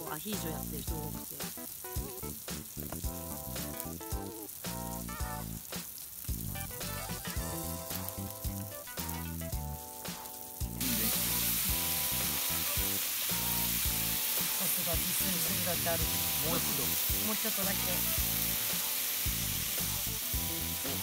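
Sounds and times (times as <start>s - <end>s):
food sizzling on a griddle: 0.0s - 21.0s
music playing: 0.0s - 21.0s.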